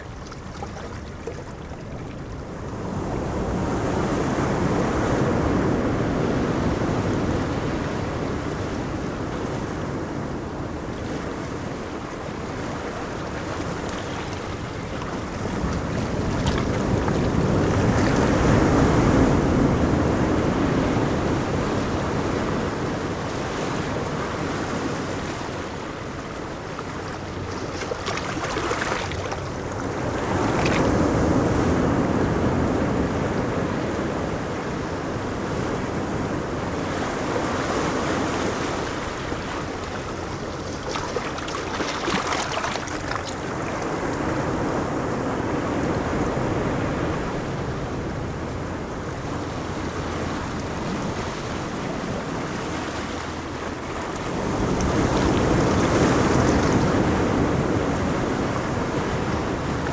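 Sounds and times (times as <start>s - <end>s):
ocean waves breaking: 0.0s - 59.9s
wind buffeting microphone: 0.0s - 59.9s.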